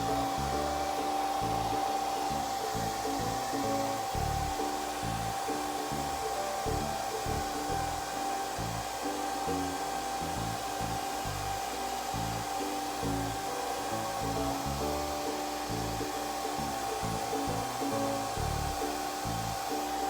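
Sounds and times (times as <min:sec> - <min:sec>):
background music: 0:00.0 - 0:20.0
hair dryer blowing: 0:00.0 - 0:20.0.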